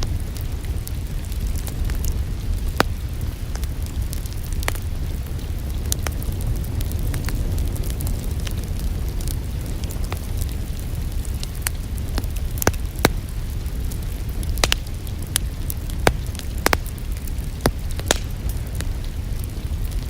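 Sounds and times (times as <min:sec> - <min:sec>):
fire crackles and pops: 0:00.0 - 0:20.0
fireplace flames rumbling: 0:00.0 - 0:20.0.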